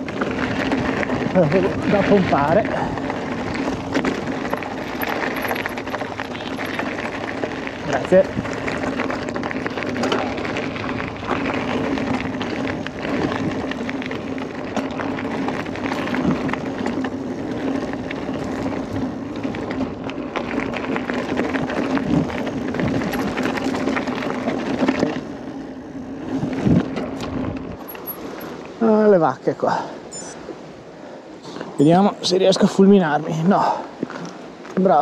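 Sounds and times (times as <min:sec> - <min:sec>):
bike clicking and rattling: 0:00.0 - 0:28.8, 0:31.6 - 0:35.0
bike tyres on dirt: 0:00.0 - 0:35.0.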